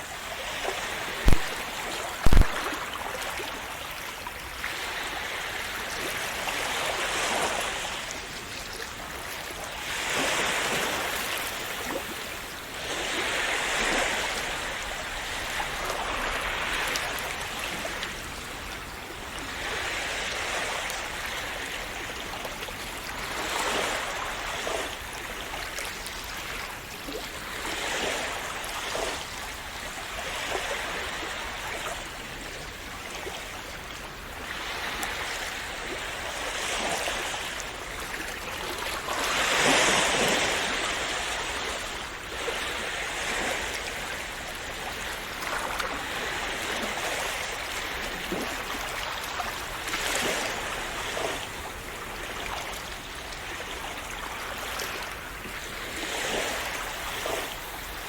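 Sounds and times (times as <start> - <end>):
sea waves washing in: 0.0 - 58.0.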